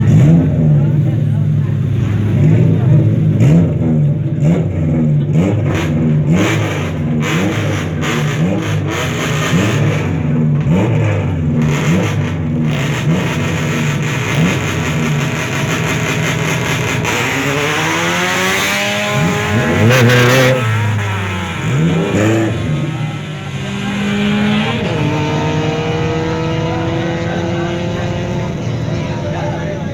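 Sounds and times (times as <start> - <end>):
car accelerating away: 0.0 - 29.9
car engine revving: 0.0 - 29.9.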